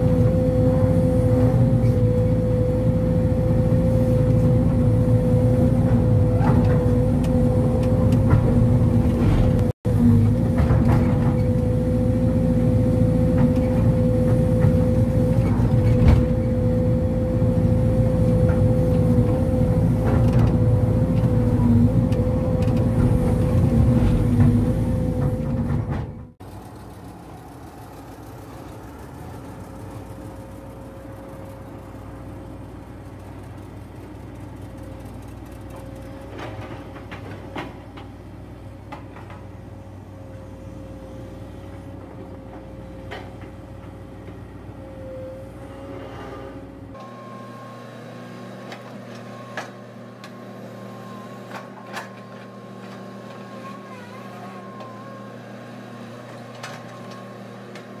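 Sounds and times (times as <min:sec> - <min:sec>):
excavator diesel rumble and whine: 0:00.0 - 0:58.0.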